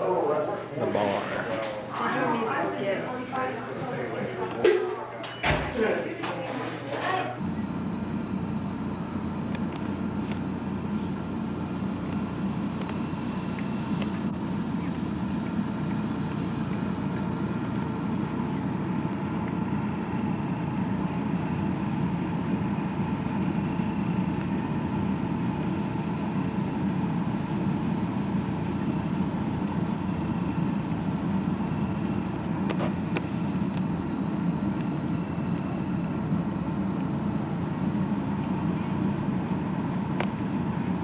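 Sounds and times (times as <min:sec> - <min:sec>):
car engine humming: 0:07.4 - 0:41.0.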